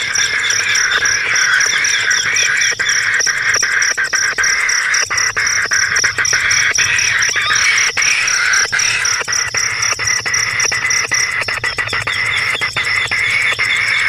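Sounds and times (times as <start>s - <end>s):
birds chirping: 0.0s - 14.0s
high-pitched pulsing insect drone: 0.0s - 14.0s.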